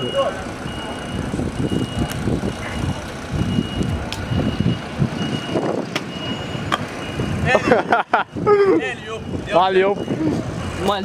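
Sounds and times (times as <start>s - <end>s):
low engine rumble: 0.0s - 11.0s
reversing alarm beeping: 0.0s - 11.0s.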